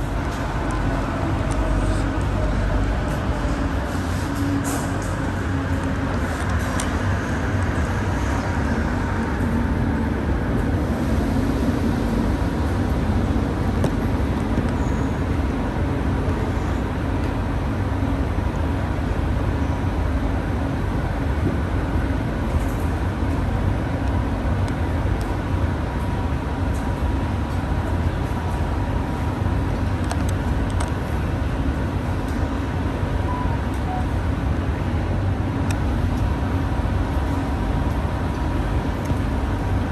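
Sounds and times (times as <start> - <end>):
train motor hum: 0.0 - 39.9
train wheels rumbling on rail: 0.0 - 39.9.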